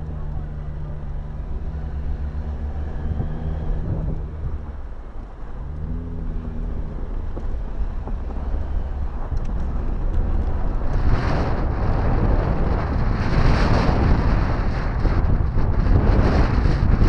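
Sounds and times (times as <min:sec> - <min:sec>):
tyres on sand and gravel: 0:00.0 - 0:17.0
vehicle engine running: 0:00.0 - 0:17.0
wind buffeting microphone: 0:00.0 - 0:17.0.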